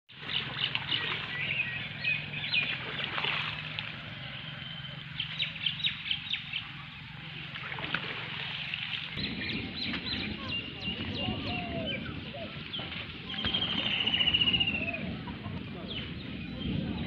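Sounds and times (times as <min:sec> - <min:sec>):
many birds chirping: 0:00.1 - 0:07.6, 0:08.2 - 0:17.0.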